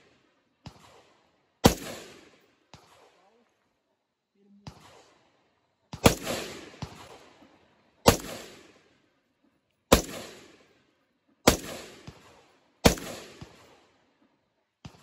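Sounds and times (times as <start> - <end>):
rifle shots with echo: 0.0 - 3.6, 4.6 - 9.3, 9.9 - 15.0.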